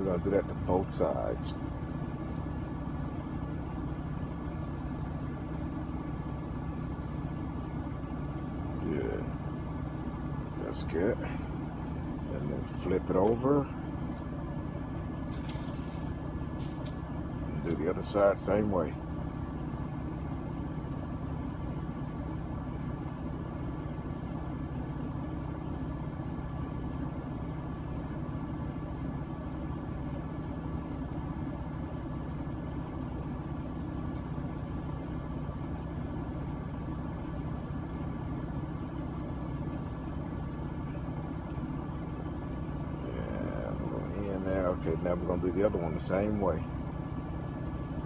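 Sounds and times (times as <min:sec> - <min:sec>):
diesel truck engine idling: 0:00.0 - 0:48.0.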